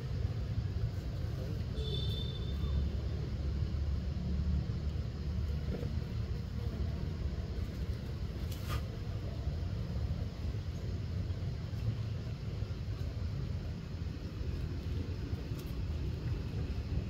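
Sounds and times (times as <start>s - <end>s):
steady low rumble: 3.0s - 17.0s.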